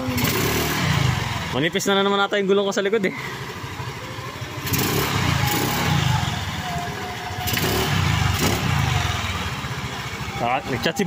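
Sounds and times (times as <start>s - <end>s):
scooter engine revving: 0.0s - 11.0s.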